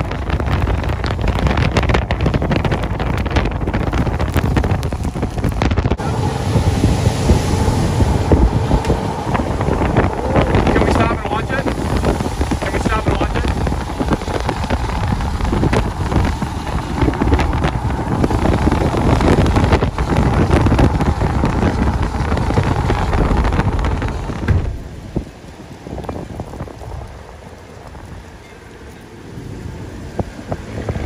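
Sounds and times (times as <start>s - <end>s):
rain: 0.0s - 31.0s
strong wind buffeting microphone: 0.0s - 31.0s.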